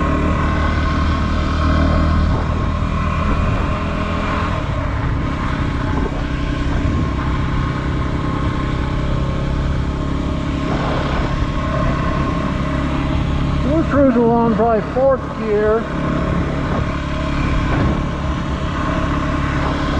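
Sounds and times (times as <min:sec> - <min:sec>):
motorcycle engine cruising: 0:00.0 - 0:19.9.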